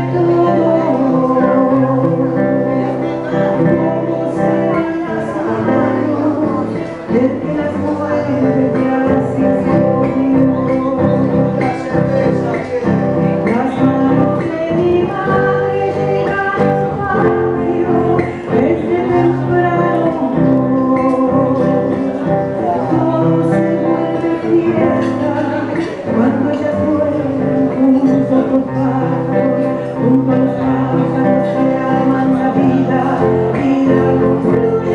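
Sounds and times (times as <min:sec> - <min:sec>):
plucked guitar: 0:00.0 - 0:34.9
woman singing: 0:00.0 - 0:34.9.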